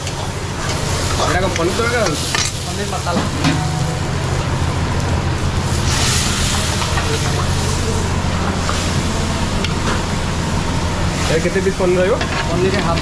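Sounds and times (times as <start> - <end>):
steady low hum: 0.0 - 13.0
food sizzling in a wok: 0.3 - 12.8.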